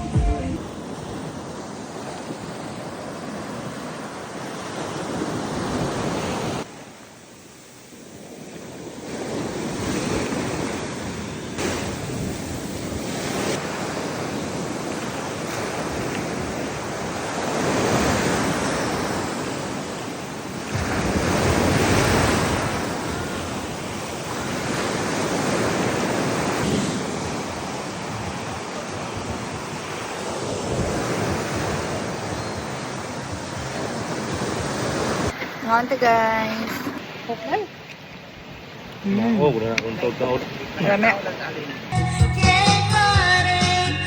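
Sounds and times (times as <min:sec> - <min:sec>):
ocean surf washing in: 0:00.0 - 0:42.0.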